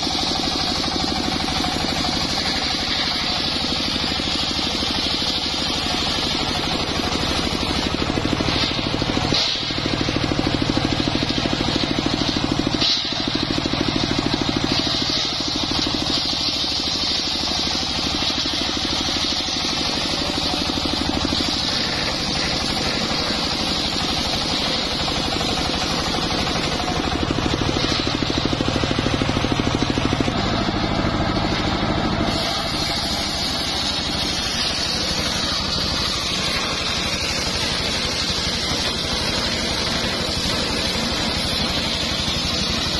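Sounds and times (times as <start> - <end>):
circular saw ripping through log: 0.0 - 42.9
engine running under load: 0.0 - 42.9.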